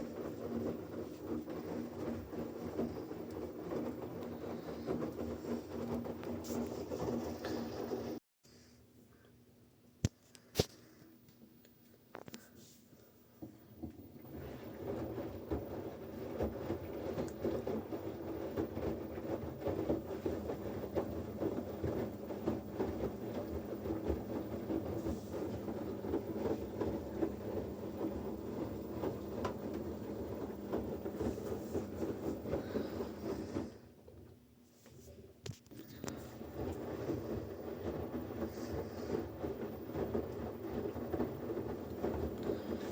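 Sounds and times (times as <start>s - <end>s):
washing machine churning: 0.0s - 8.2s, 13.2s - 34.5s, 35.6s - 42.9s.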